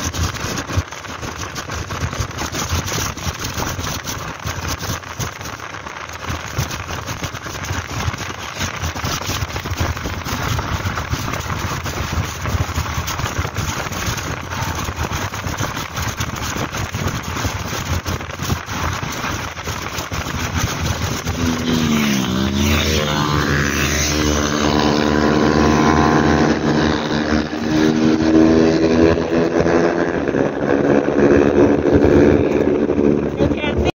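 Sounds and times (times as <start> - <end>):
motorcycle engine: 0.0 - 33.9
wind rushing over microphone: 0.0 - 33.9.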